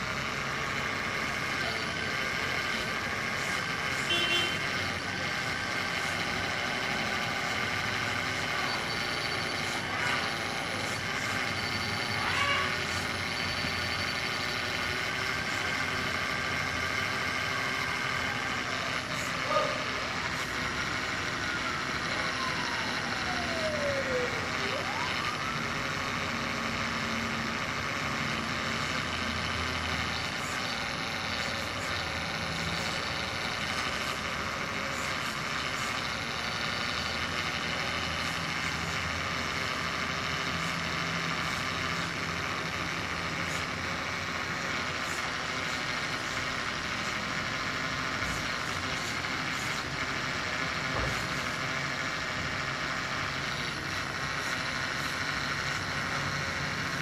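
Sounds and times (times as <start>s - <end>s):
hydraulic pump whine: 0.0s - 57.0s.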